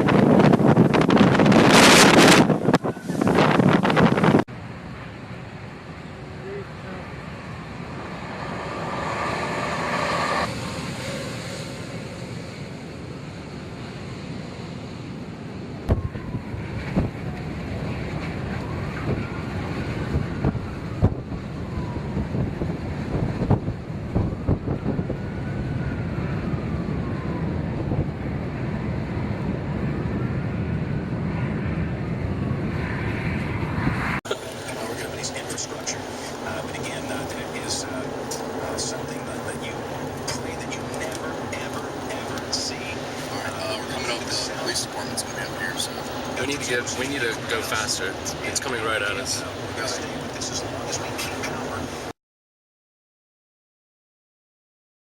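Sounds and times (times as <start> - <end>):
wind rushing over microphone: 0.0 - 4.5, 7.0 - 52.1.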